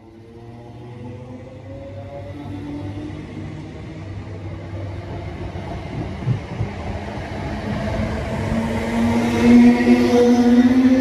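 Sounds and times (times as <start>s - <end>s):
train wheels rumbling on rail: 0.2s - 11.0s.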